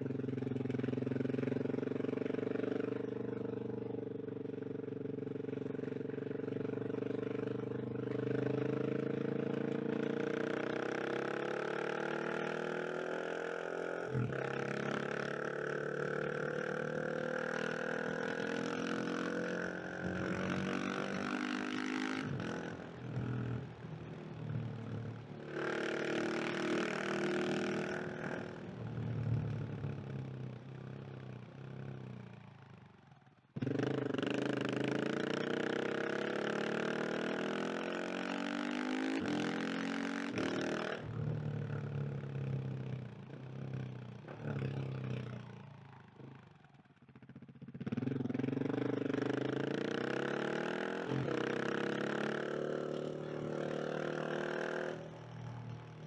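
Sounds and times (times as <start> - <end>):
motorcycle engine accelerating hard: 0.0 - 31.2, 33.6 - 56.0.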